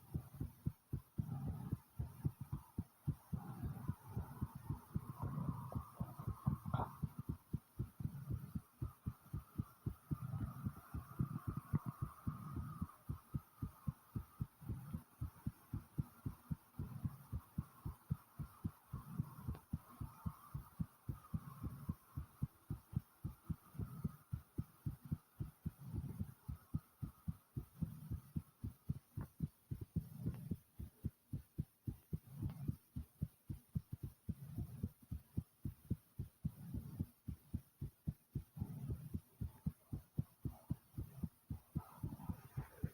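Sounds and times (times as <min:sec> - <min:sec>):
heartbeat thumping fast: 0:00.0 - 0:42.9.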